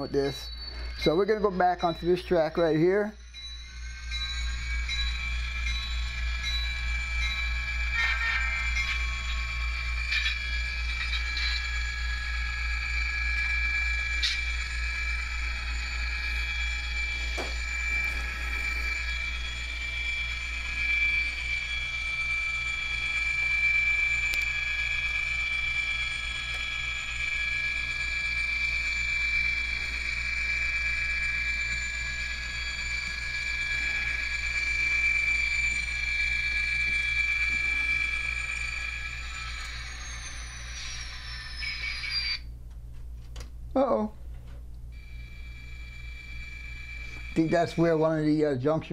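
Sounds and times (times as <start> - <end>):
model train running: 0.0 - 42.3, 45.0 - 48.6.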